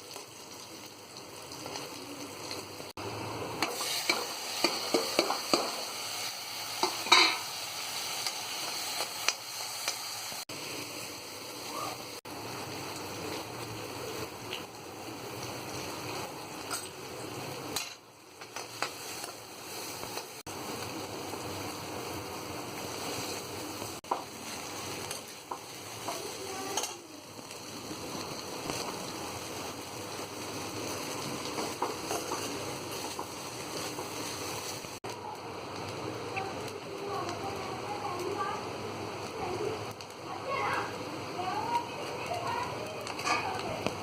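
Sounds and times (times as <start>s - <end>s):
rice sizzling in a pan: 0.0s - 44.0s.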